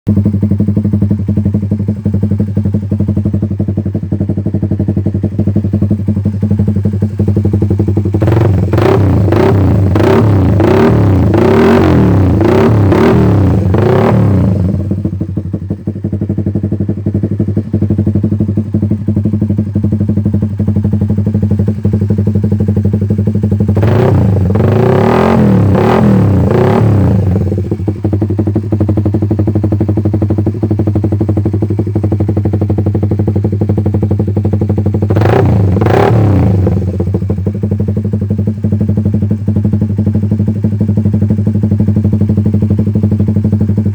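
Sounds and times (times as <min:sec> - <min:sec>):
motorcycle engine idling: 0:00.1 - 0:43.9
motorcycle throttle blips: 0:00.1 - 0:43.9.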